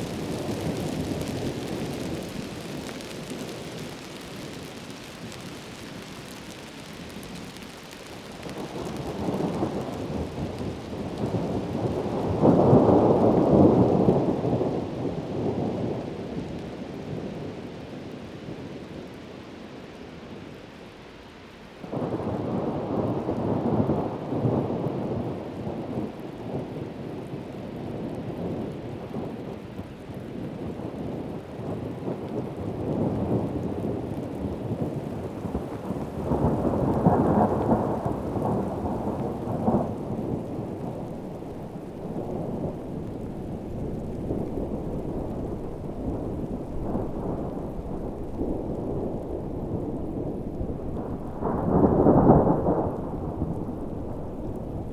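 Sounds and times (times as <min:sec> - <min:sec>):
low rolling thunder: 0:00.0 - 0:06.1, 0:08.3 - 0:18.8, 0:21.9 - 0:54.9
heavy rain: 0:00.0 - 0:54.9.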